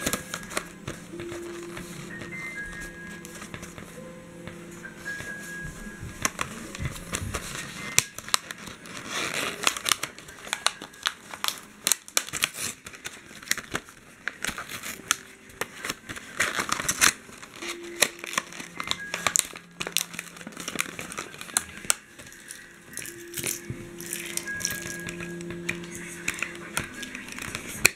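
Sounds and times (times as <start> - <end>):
plastic packaging crinkling: 0.0 - 3.9, 5.0 - 27.9.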